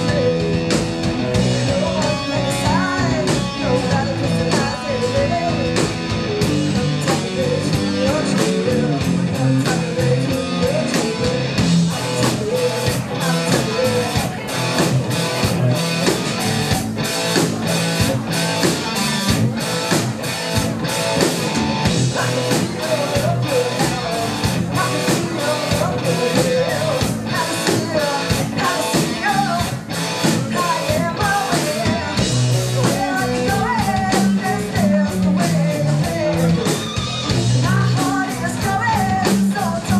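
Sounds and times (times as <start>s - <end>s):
drum kit beat: 0.0s - 39.9s
electric guitar: 0.0s - 39.9s.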